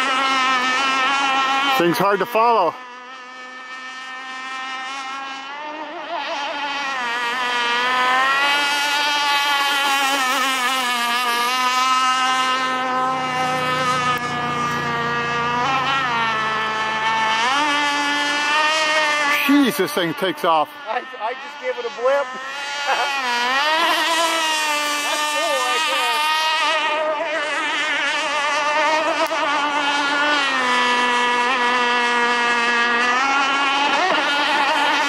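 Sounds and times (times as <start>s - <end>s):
model speedboat engine whine: 0.0s - 35.0s.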